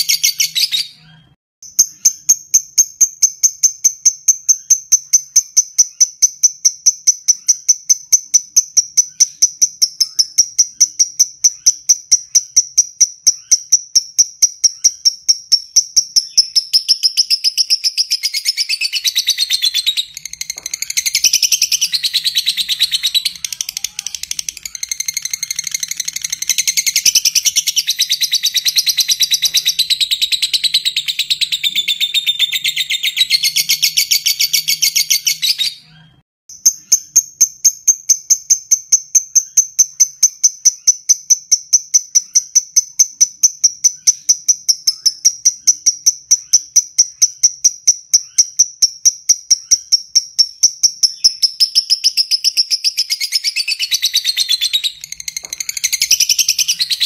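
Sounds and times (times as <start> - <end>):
lovebird trilling: 1.8 - 35.8, 39.3 - 57.0.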